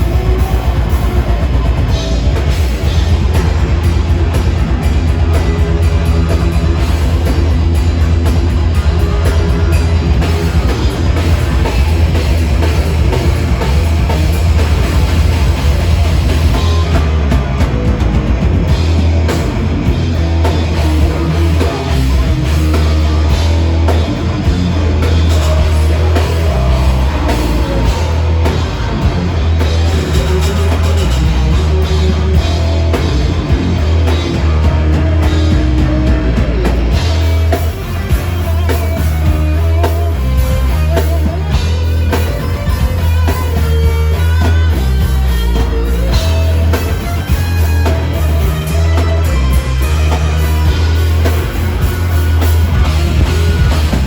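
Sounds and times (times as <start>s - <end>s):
live metal band playing: 0.0s - 54.0s.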